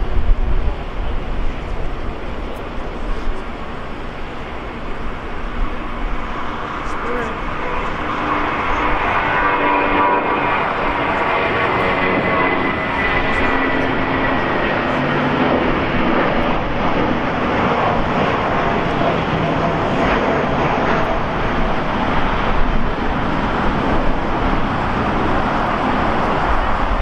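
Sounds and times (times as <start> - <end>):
high engine whine: 0.0 - 27.0
jet engines rushing: 0.0 - 27.0.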